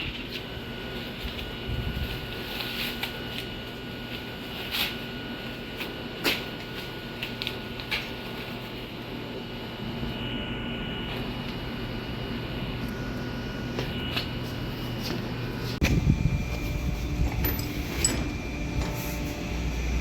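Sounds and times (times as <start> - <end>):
air conditioning machinery hum: 0.0 - 20.0.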